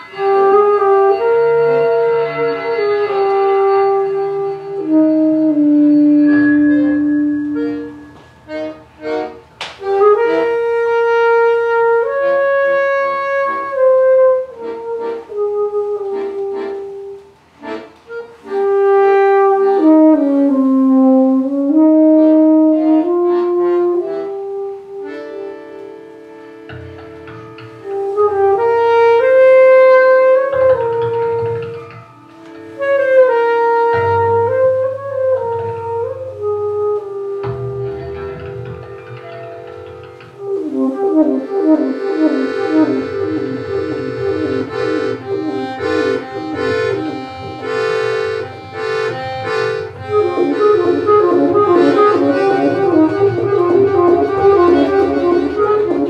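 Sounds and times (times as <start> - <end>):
accordion: 0.0 - 56.0
saxophone: 0.0 - 56.0.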